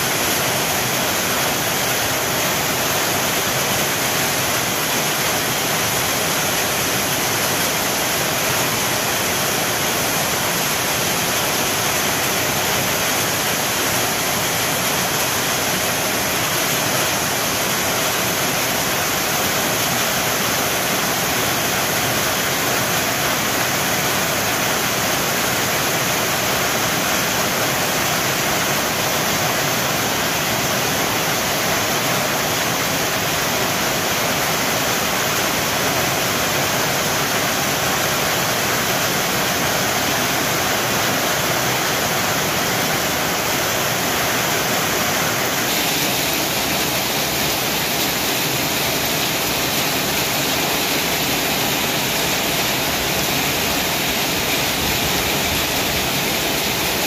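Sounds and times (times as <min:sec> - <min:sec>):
heavy rain on wet pavement: 0:00.0 - 0:57.0.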